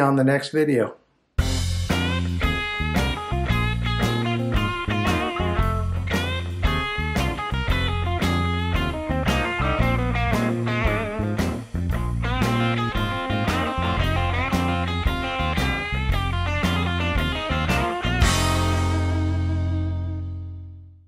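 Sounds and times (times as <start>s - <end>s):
steady drum beat: 1.4s - 19.5s
bluesy electric guitar: 1.4s - 20.7s
bass: 1.4s - 21.0s.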